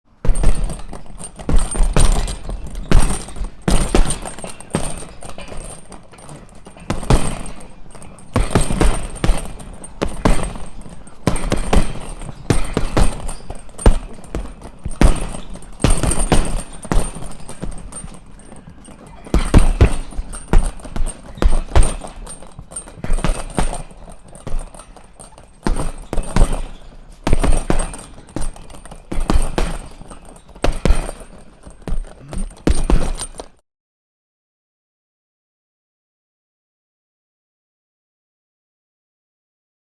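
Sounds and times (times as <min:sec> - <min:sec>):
punches thudding on punching bag: 0:00.2 - 0:33.6.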